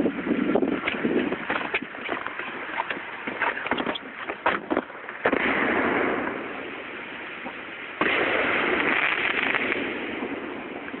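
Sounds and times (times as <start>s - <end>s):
firework bursting and crackling: 0.0s - 11.0s.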